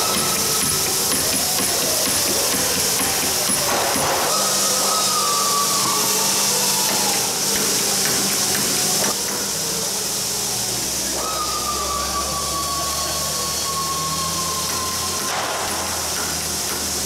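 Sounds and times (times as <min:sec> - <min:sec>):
rushing hiss with falling whine: 0:00.0 - 0:17.0.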